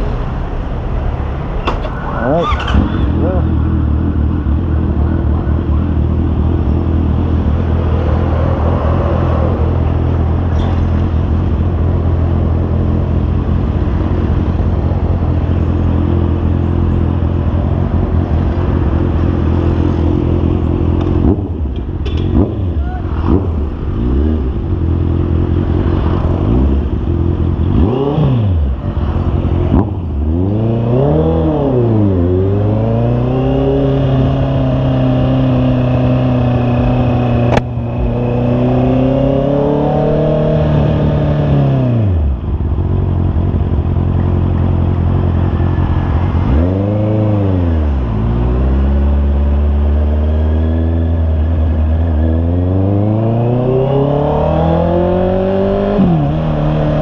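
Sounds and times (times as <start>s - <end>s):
motorcycle engine revving: 1.6s - 57.0s.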